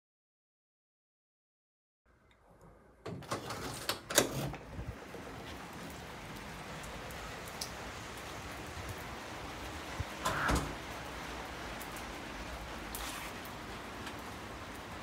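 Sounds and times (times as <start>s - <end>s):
outdoor background hiss: 2.1s - 15.0s.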